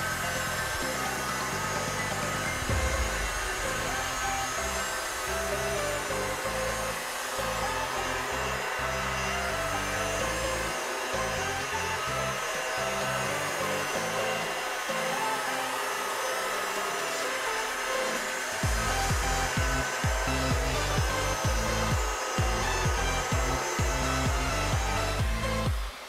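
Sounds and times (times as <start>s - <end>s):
background music: 0.0s - 26.0s
electric polisher running: 0.0s - 26.0s.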